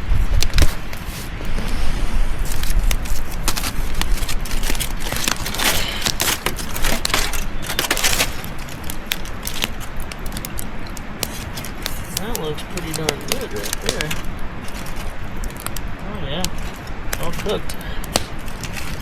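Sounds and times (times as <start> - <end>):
crackling campfire: 0.0 - 19.0
aluminium foil crinkling: 2.4 - 19.0.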